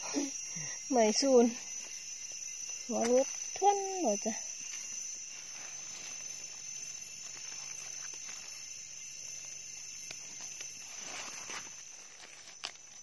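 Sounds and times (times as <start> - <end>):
insects shrilling: 0.0 - 13.0
faint ticks and rustles: 0.1 - 13.0.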